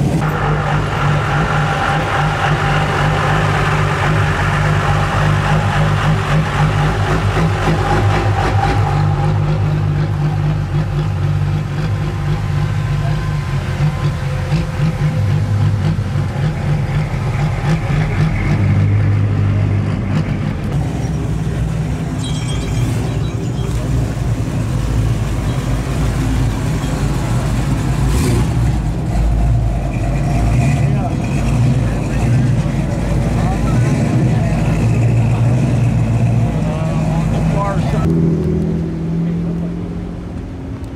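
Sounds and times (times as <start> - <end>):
truck engines burbling at idle: 0.0 - 40.9.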